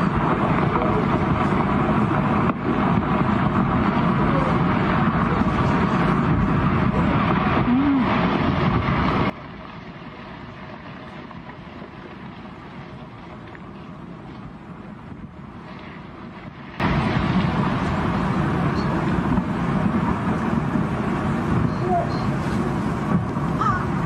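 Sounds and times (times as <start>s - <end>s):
hiss of wind and water: 0.0s - 24.0s
wind blasting microphone: 0.0s - 24.0s.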